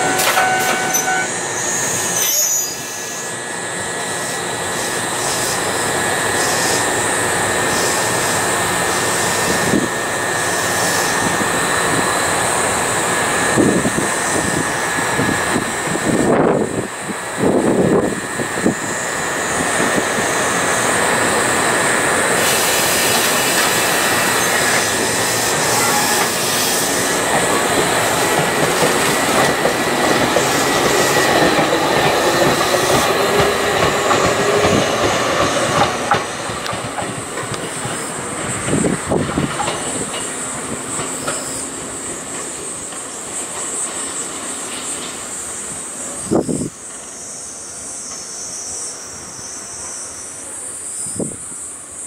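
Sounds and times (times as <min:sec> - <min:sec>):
electric train running: 0:00.0 - 0:52.0
wheels clacking and squealing on rails: 0:00.0 - 0:52.0.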